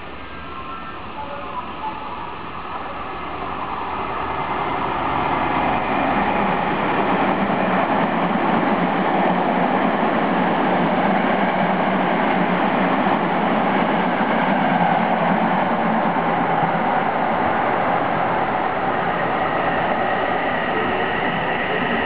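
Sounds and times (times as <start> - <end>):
train wheels rolling on rails: 0.8 - 22.0.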